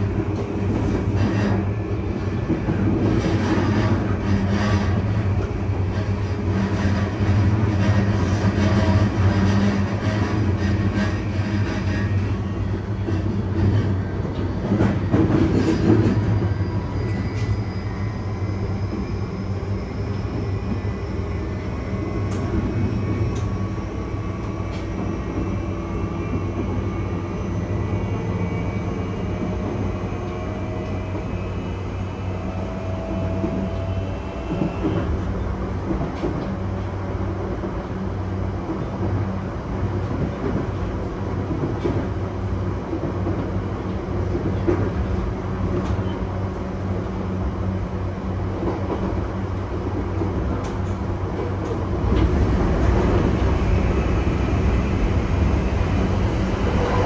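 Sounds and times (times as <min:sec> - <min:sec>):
wheels on rail drone: 0:00.0 - 0:57.0.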